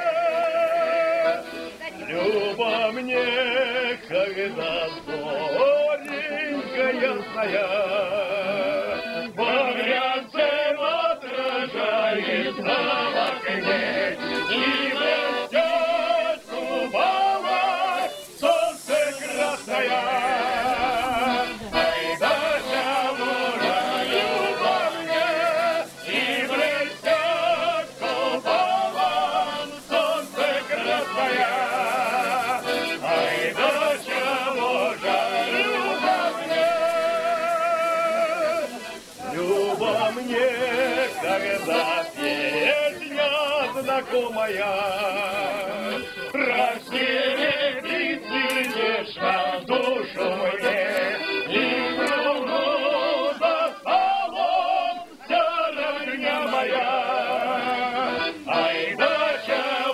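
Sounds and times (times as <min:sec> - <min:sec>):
group of voices singing folk song: 0:00.0 - 0:59.9.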